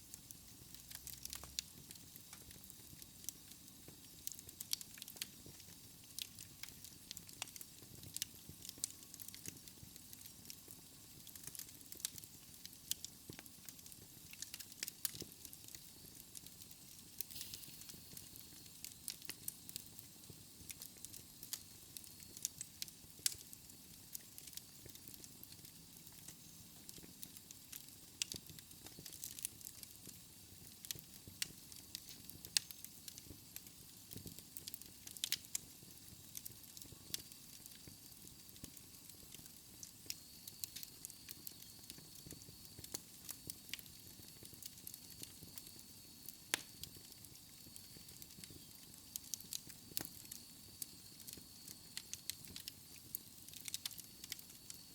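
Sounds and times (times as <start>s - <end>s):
fire crackling and popping: 0.0s - 54.9s.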